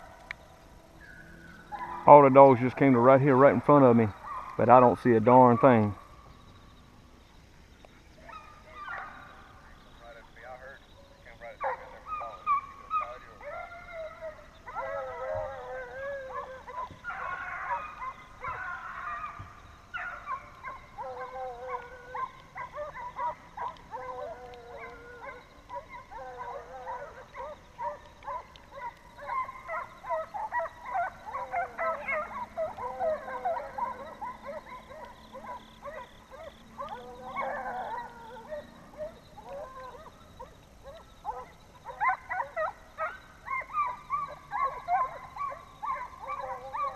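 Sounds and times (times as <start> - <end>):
hounds baying: 0.0 - 6.4, 7.8 - 46.9.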